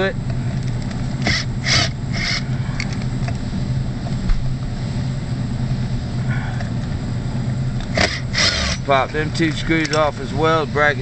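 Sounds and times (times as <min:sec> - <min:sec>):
refrigeration equipment hum: 0:00.0 - 0:11.0.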